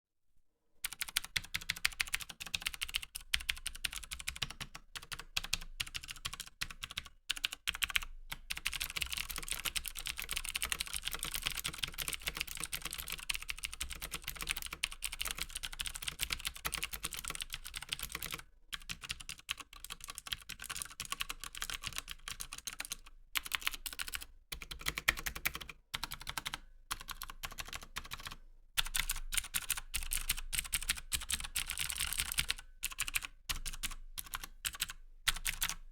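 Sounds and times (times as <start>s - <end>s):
mechanical keyboard typing: 0.8s - 35.9s.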